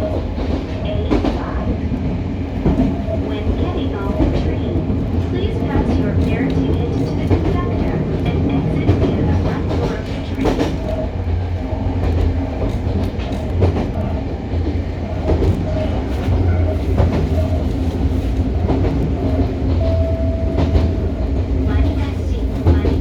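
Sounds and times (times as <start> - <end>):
rail-joint clack: 0.0 - 23.0
train wheels rumbling on rails: 0.0 - 23.0.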